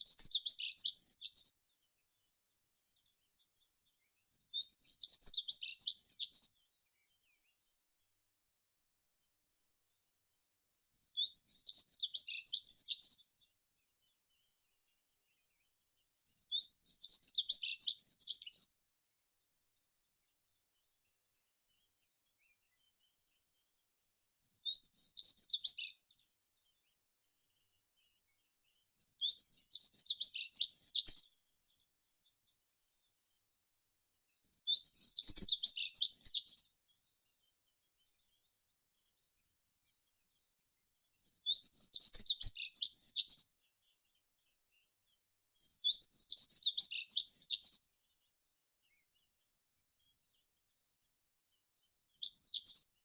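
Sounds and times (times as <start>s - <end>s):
faint bird chirps: 0.0s - 53.0s.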